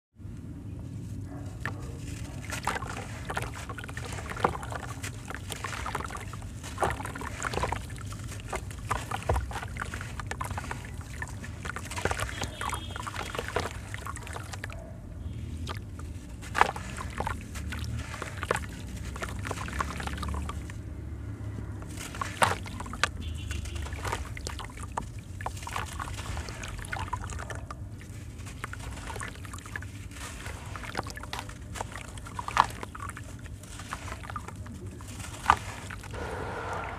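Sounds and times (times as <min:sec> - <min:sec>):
sand splashing into water: 0:01.6 - 0:14.7, 0:15.3 - 0:36.9.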